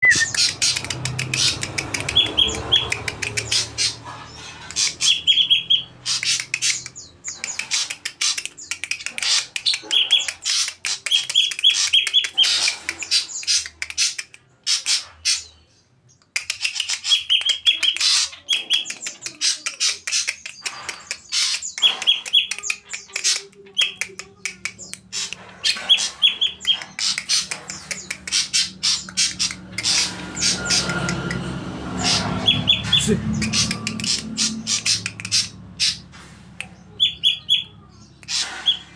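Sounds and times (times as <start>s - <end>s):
bird singing sharp notes and trills: 0.0s - 38.9s.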